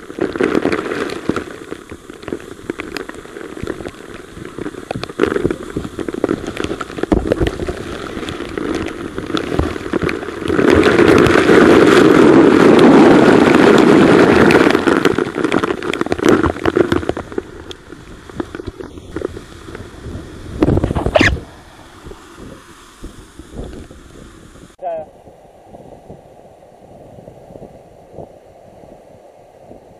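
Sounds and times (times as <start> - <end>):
rush of falling water: 0.0 - 29.9.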